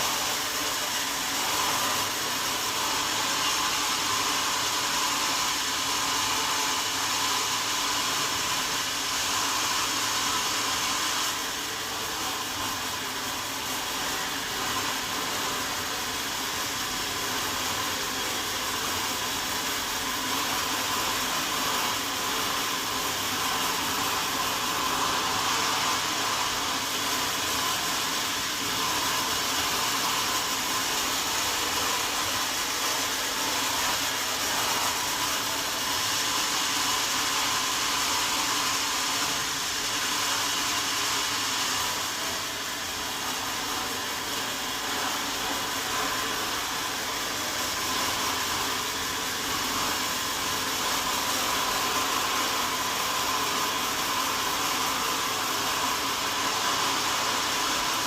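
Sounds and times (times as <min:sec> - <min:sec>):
sawmill saw whining: 0:00.0 - 0:58.0.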